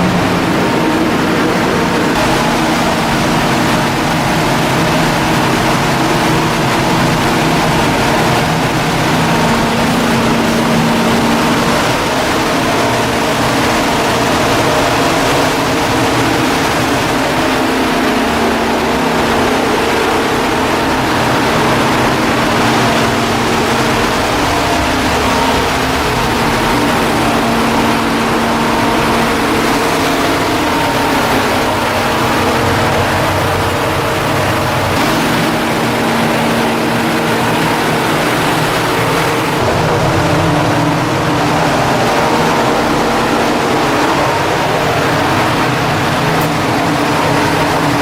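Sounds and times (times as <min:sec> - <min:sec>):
large engine humming: 0:00.0 - 0:48.0.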